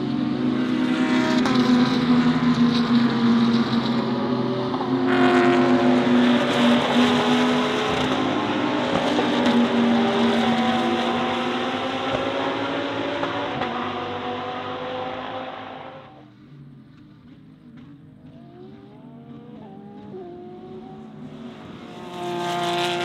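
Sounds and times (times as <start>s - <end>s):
race car engines: 0.0s - 23.0s
race car passing close: 0.0s - 23.0s.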